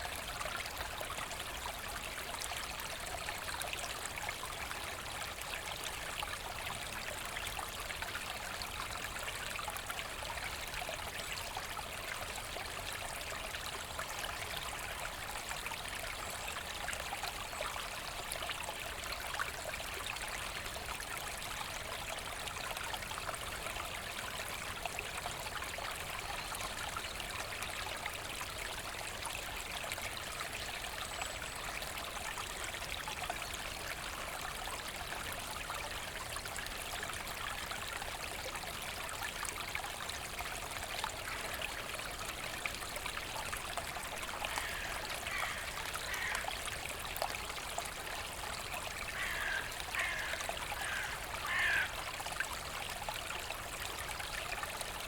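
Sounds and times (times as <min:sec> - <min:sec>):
brook babbling over stones: 0:00.0 - 0:55.0.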